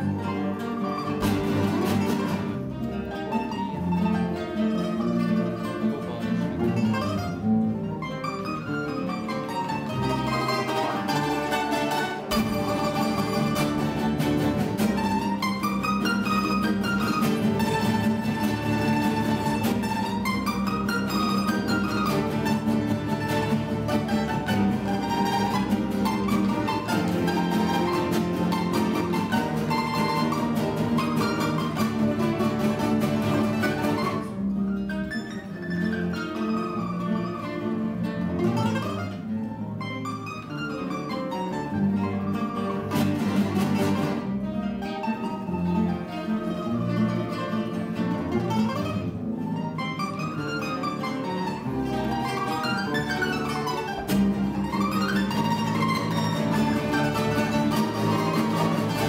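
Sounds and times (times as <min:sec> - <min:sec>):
plucked string ensemble: 0:00.0 - 0:59.0.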